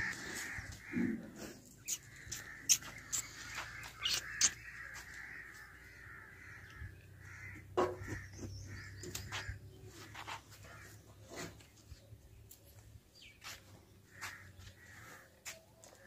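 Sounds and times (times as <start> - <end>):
crows cawing: 0.0 - 11.0, 14.1 - 16.0.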